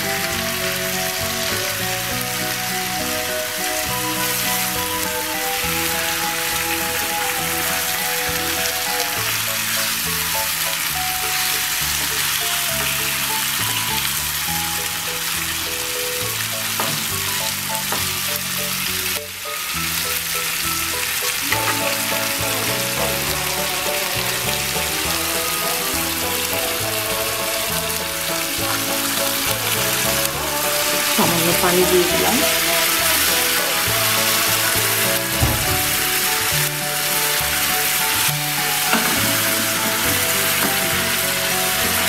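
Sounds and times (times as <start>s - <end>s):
background music: 0.0s - 42.0s
chicken sizzling in oil: 0.0s - 42.0s.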